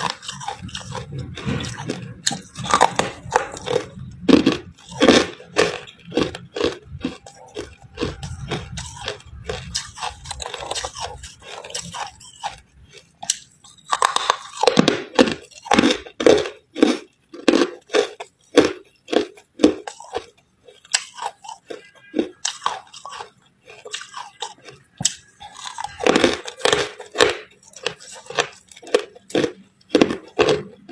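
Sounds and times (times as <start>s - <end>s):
person crunching ice: 0.0s - 30.9s.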